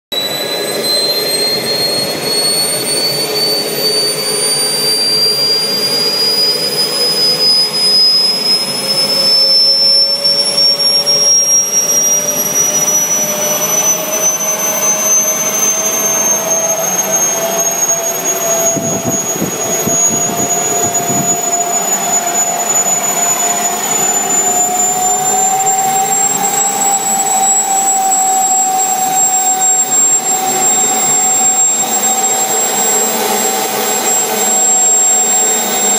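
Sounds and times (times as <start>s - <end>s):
model turbine engine whine: 0.2s - 35.9s.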